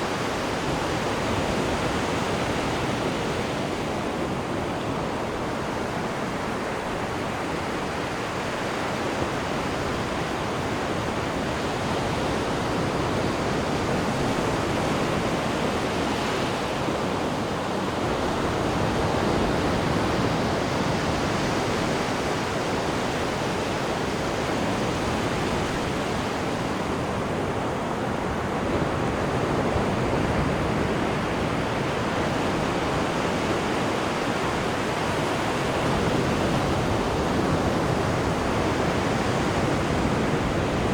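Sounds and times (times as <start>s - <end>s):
sea water rushing in ship wake: 0.0s - 40.9s.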